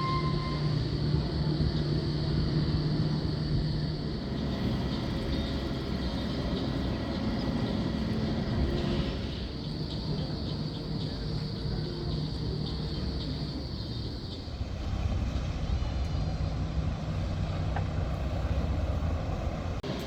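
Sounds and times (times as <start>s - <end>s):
low engine-like rumble: 0.0s - 20.0s
outdoor background noise: 0.0s - 20.0s.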